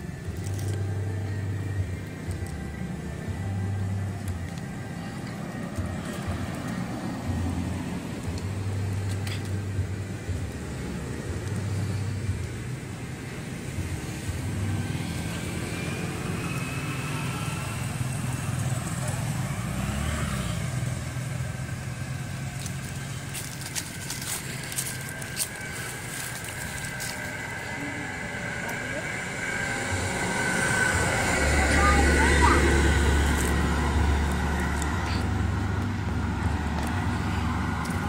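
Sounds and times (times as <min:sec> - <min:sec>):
faint voices: 0:00.0 - 0:38.0
road traffic engine hum: 0:00.0 - 0:38.0.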